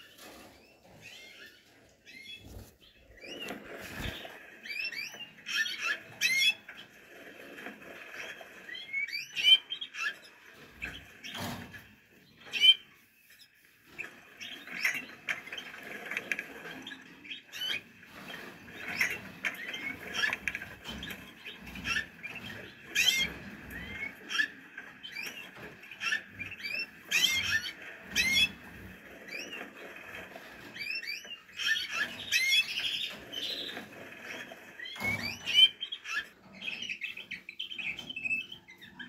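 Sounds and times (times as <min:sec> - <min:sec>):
canaries chirping: 0:00.0 - 0:39.0.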